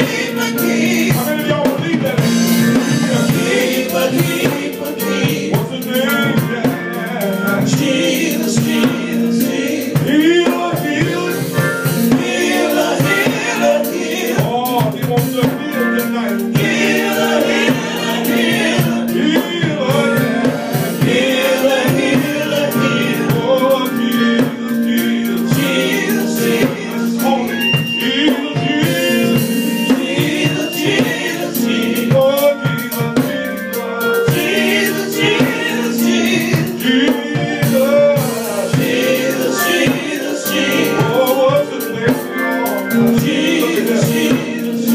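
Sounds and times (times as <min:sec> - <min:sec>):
band with drum kit: 0:00.0 - 0:44.9
gospel group singing: 0:00.0 - 0:44.9.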